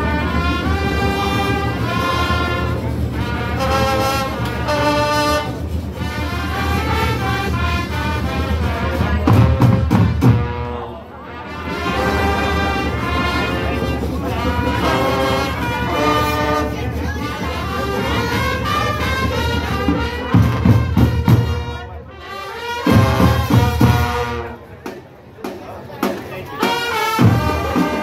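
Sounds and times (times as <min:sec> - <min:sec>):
brass band playing melody: 0:00.0 - 0:24.9, 0:26.4 - 0:28.0.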